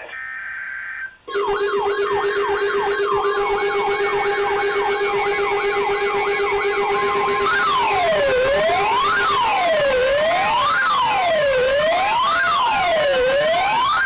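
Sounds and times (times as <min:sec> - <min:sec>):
electronic siren yelping: 0:00.0 - 0:14.0.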